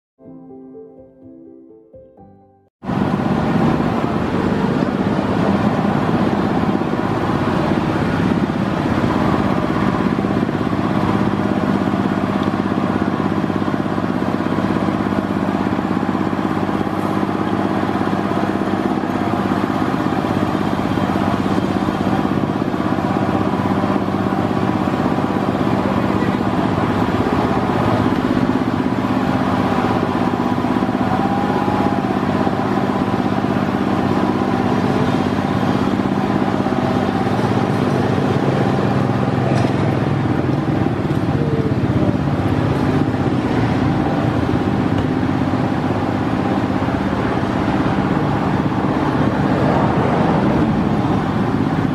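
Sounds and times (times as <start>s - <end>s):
small engine running: 2.8s - 51.9s.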